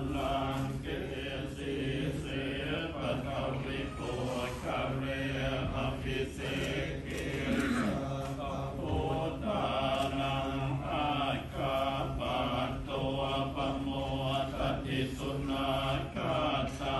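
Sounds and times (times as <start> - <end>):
monks chanting: 0.0 - 16.9.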